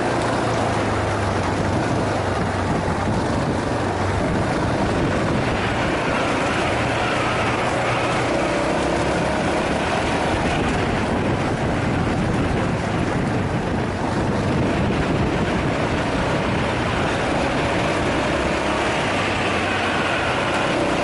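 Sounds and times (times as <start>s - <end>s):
motorcycle engine running: 0.0s - 21.0s
steady rush of noise: 0.0s - 21.0s.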